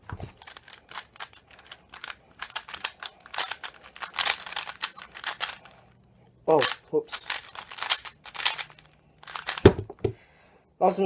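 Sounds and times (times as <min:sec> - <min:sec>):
speedcube clicking and clacking: 0:00.3 - 0:05.8, 0:06.5 - 0:10.2.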